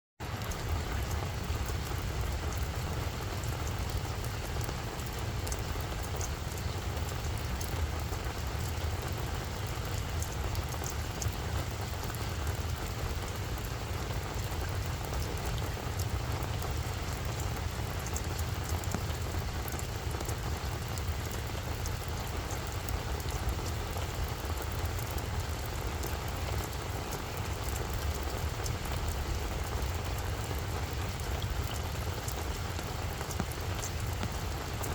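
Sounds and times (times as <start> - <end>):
continuous low rumble: 0.2 - 34.9
rain pattering: 0.2 - 34.9.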